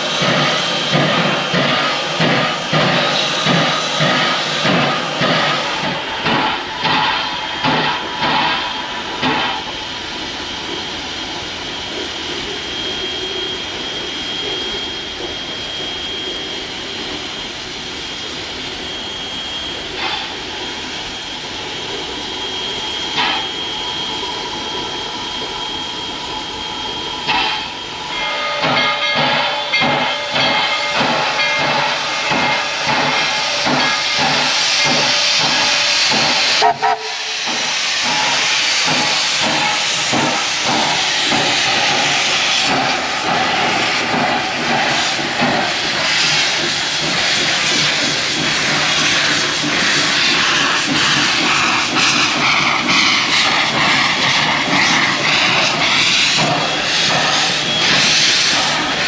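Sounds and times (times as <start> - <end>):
steam hissing: 0.0 - 59.0
steam locomotive exhaust beats: 0.0 - 59.0.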